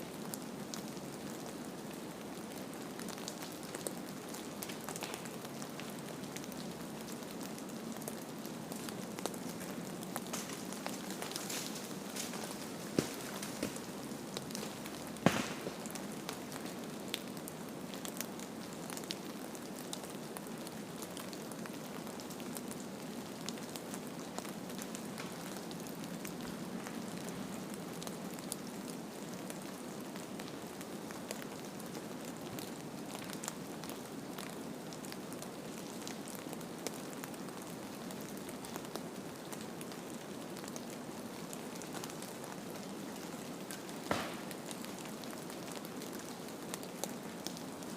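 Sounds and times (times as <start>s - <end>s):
small crackles and ticks: 0.1s - 47.9s.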